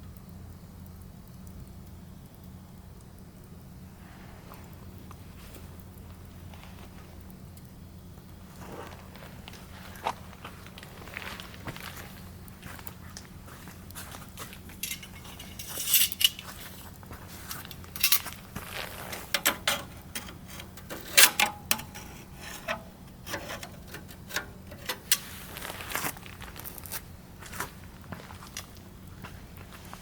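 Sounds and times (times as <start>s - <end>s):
firewood crackling and popping: 0.0s - 30.0s.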